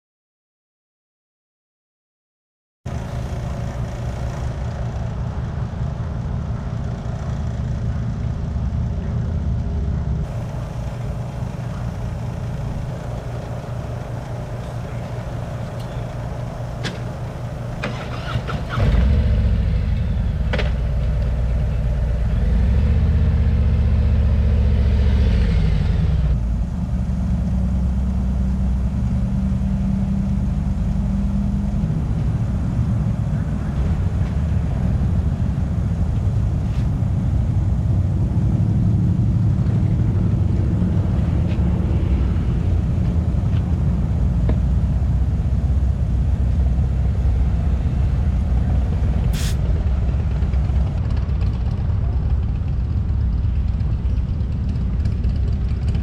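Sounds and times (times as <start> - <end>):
motorcycle engine running: 2.9 - 56.0.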